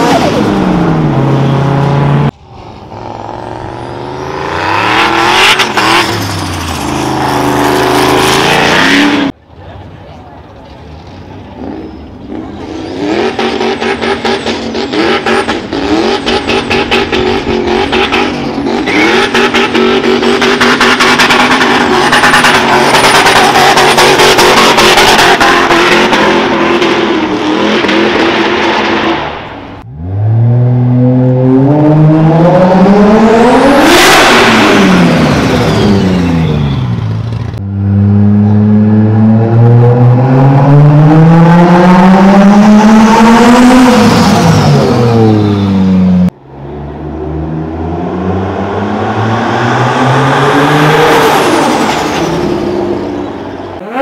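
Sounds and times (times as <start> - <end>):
car engine revving: 0.0 - 9.4, 11.6 - 54.0.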